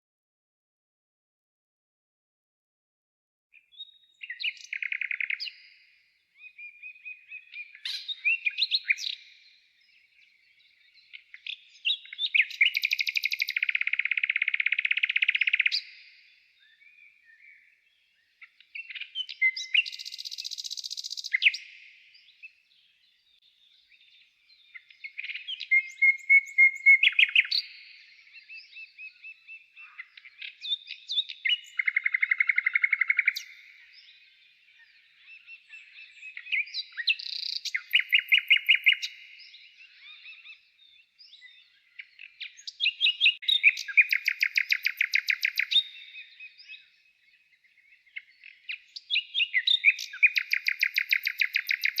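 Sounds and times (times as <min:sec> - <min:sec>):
songbird chirps and trills: 0:03.5 - 0:52.0.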